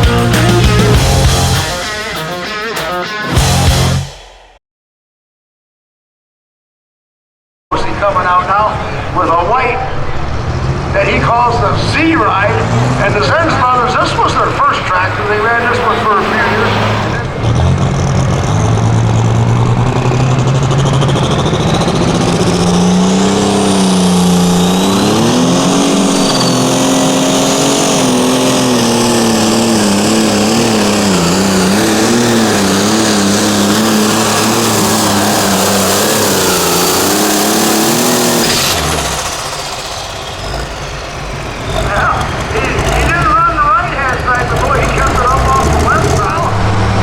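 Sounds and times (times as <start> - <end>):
diesel tractor engine under load: 0.0 - 2.0, 7.7 - 47.0.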